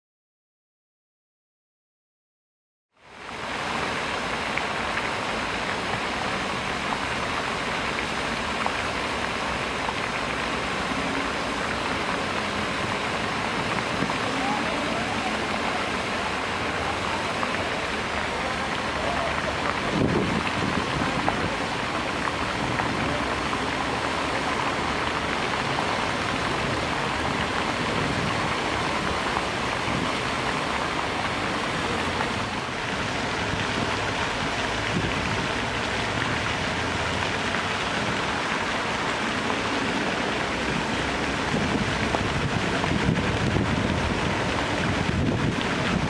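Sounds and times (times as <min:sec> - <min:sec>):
fountain water splashing: 0:03.0 - 0:46.0.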